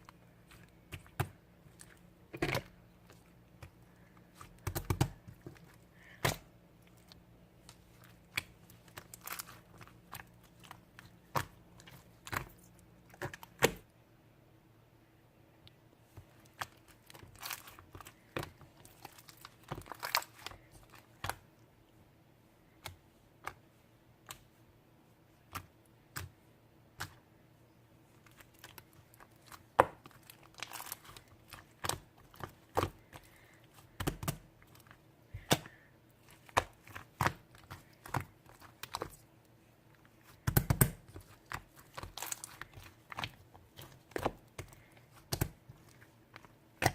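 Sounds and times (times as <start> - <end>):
slime squishing: 0.0 - 13.9, 16.0 - 21.7, 28.0 - 46.9.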